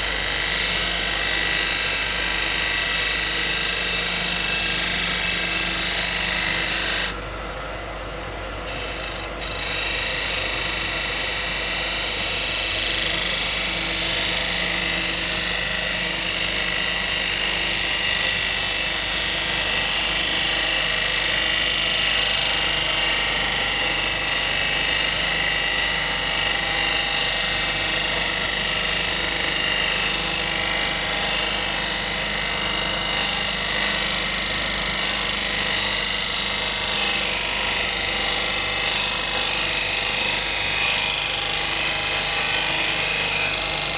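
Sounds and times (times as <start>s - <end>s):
lathe motor hum: 0.0s - 43.9s.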